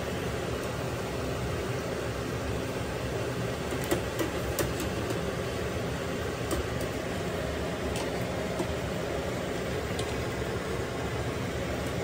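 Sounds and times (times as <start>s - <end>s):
gas stove rushing: 0.0s - 12.0s.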